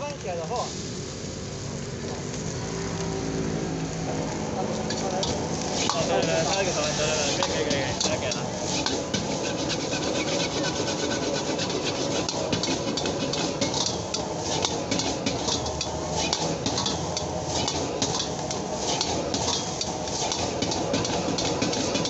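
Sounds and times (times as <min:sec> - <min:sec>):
ladle scraping wok: 0:04.1 - 0:22.0.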